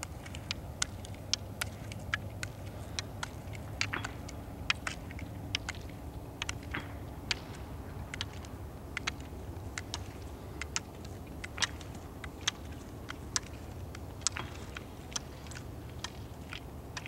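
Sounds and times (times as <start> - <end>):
low steady rumble: 0.0 - 17.0
ski pole tips clicking on asphalt: 0.0 - 17.0.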